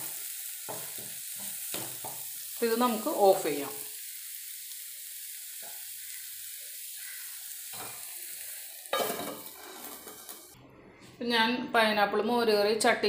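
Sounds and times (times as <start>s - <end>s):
beans sizzling in oil: 0.0s - 10.6s.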